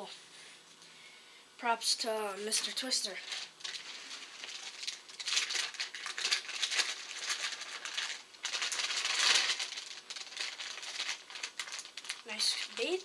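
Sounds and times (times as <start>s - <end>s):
packaging crinkling: 2.6s - 13.0s.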